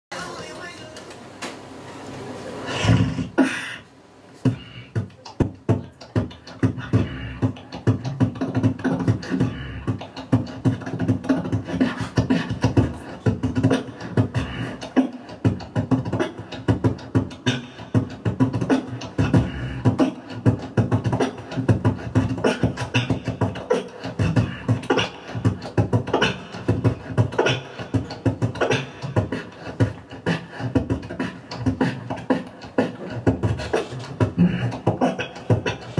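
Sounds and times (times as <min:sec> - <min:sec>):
steady low hum: 0:00.5 - 0:35.9
person beatboxing: 0:02.6 - 0:35.9.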